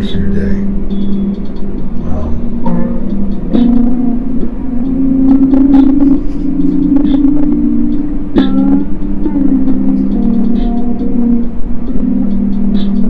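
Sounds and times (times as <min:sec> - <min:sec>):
low droning background music: 0:00.0 - 0:13.0.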